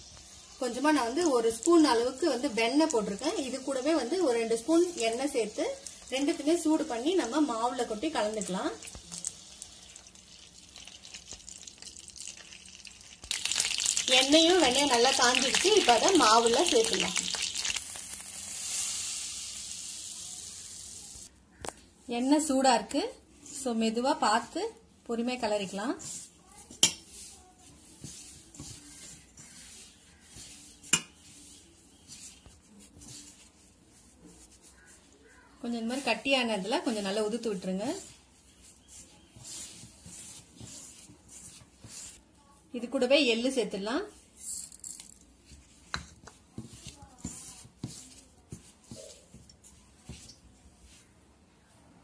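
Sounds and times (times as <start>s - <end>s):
flour rustling in hands: 0.0s - 21.4s, 23.0s - 44.6s, 45.3s - 51.6s.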